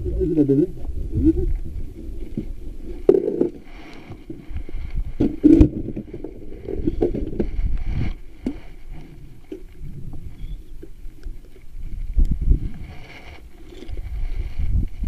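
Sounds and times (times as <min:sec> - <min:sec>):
wind and water rumbling: 0:00.0 - 0:15.0.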